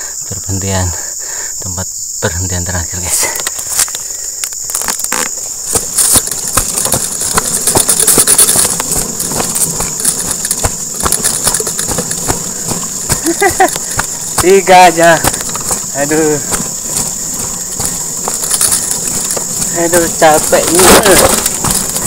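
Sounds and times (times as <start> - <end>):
crickets chirping: 0.0 - 22.0
wheelbarrow rattling over rough ground: 2.5 - 22.0.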